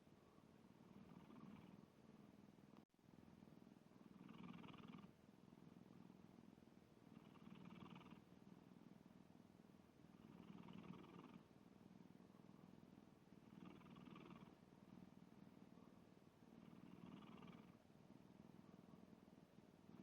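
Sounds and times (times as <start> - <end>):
cat snoring faintly: 0.3 - 2.1, 4.0 - 9.1, 10.0 - 20.0.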